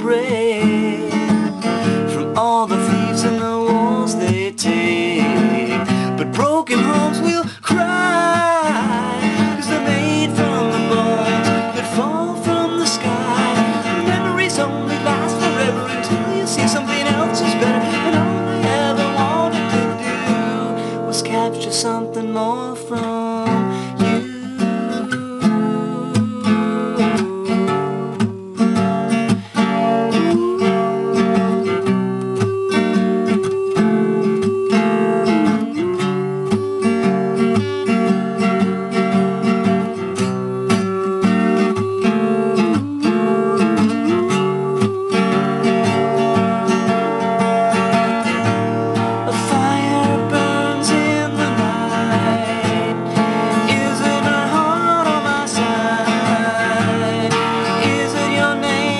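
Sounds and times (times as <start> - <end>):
acoustic guitar strumming: 0.0 - 58.9.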